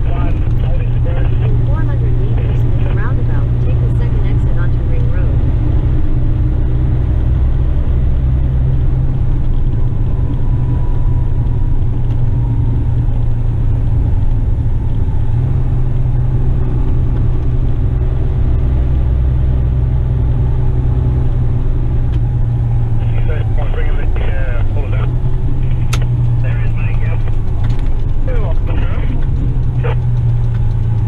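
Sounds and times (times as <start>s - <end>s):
truck diesel engine driving: 0.0s - 31.0s.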